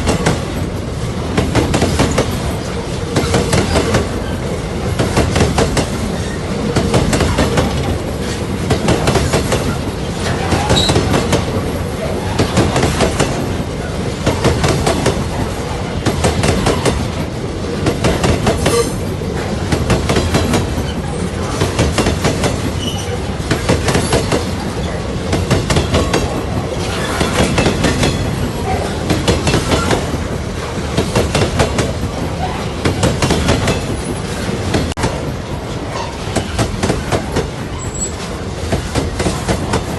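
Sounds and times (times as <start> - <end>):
freight train rumble: 0.0 - 39.9
train wheels clattering over rail joints: 0.0 - 39.9.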